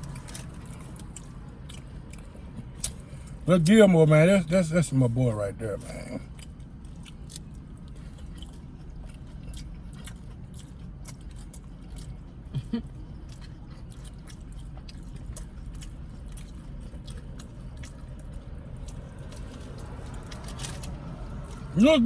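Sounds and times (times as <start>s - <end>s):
wet chewing mouth sounds: 0.0s - 3.4s, 5.8s - 21.8s.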